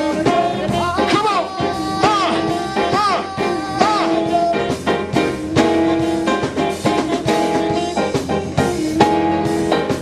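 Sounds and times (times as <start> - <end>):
drum hits: 0.0 - 10.0
live funk band: 0.0 - 10.0.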